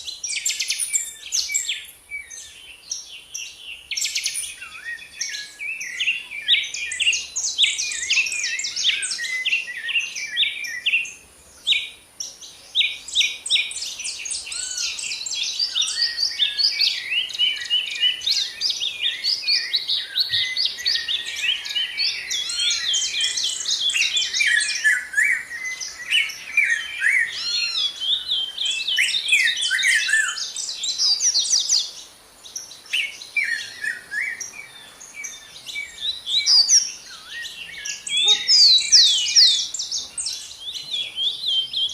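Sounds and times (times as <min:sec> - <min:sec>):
songbirds chirping and trilling: 0:00.0 - 0:41.9.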